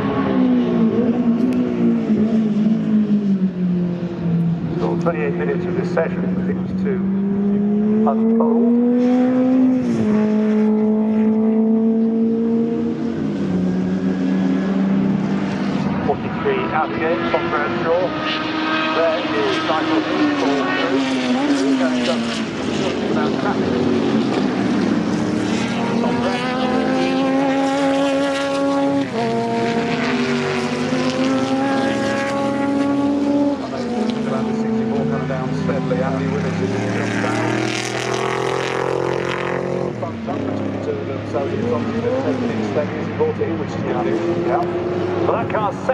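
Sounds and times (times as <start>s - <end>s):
racing car engine at high revs: 0.0s - 45.9s.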